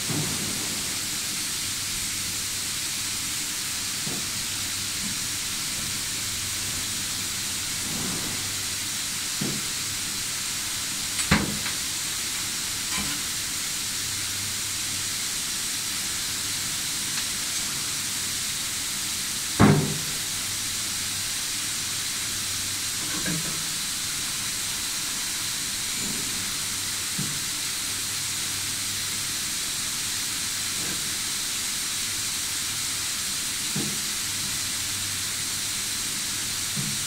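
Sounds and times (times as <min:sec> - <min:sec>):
welding arc sizzling: 0:00.0 - 0:37.0.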